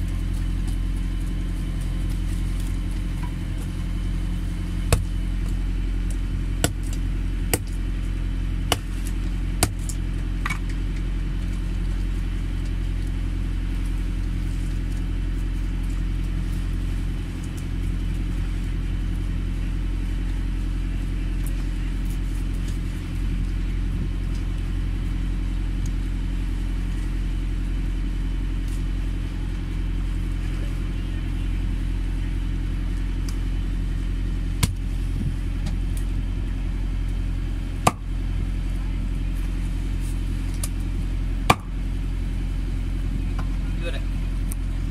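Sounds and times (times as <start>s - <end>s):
low engine hum: 0.0s - 44.9s.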